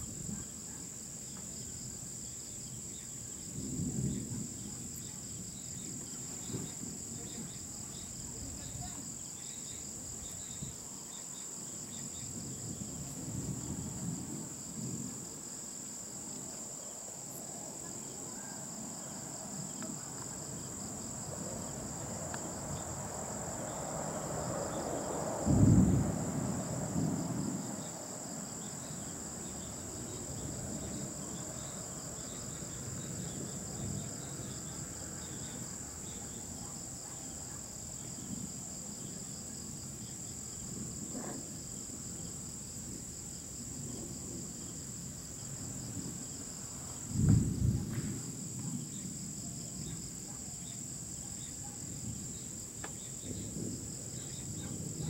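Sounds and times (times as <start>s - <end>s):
crickets chirring: 0.0s - 55.0s
thunder rumbling: 3.0s - 10.8s, 12.0s - 37.0s, 39.6s - 49.4s, 52.0s - 55.0s.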